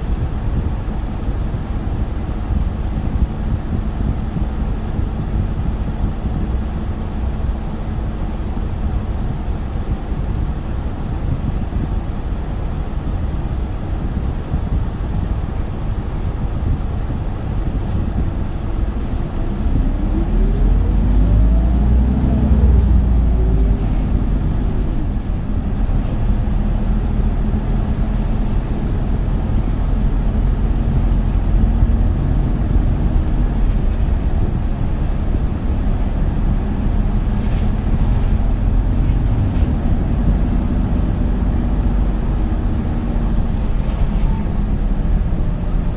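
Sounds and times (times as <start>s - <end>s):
bus diesel engine rumble: 0.0s - 45.9s.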